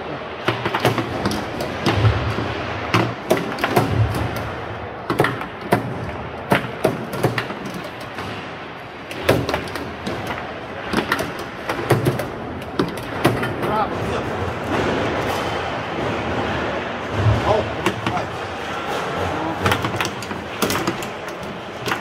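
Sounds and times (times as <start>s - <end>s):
foosball ball clacking on players: 0.4s - 22.0s
foosball rods slammed and spun: 0.4s - 22.0s.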